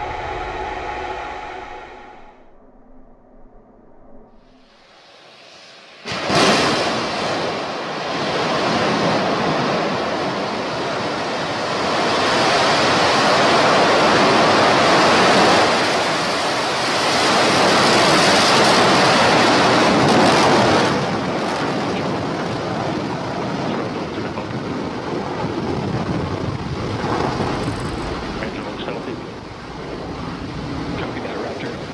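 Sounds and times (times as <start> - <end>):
rocket engine roaring: 0.0 - 31.9.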